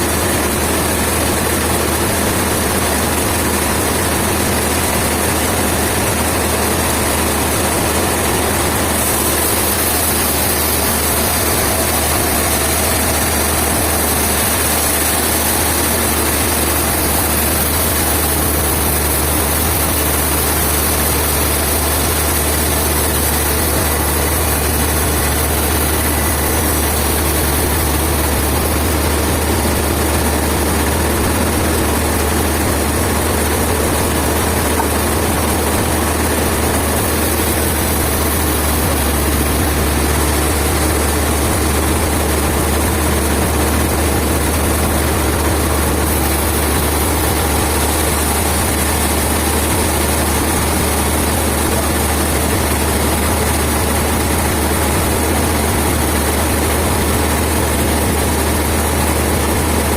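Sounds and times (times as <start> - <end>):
heavy engine rumbling: 0.0 - 59.9.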